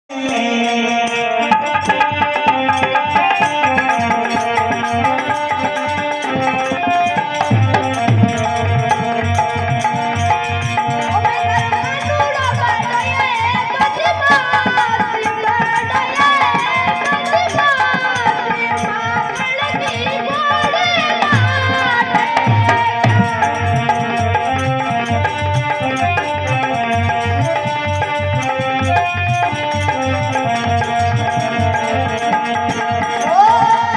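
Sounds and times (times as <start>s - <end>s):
hand drum percussion: 0.2s - 33.9s.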